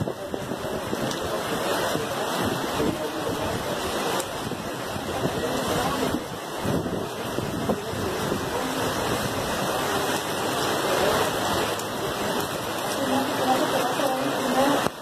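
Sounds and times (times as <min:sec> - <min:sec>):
heavy rain: 0:00.0 - 0:15.0
running water: 0:00.0 - 0:15.0.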